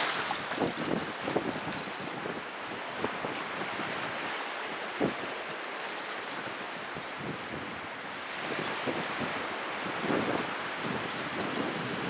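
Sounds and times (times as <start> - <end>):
wind buffeting microphone: 0.0 - 4.3, 6.5 - 12.0
small waves washing onto sand: 0.0 - 12.0.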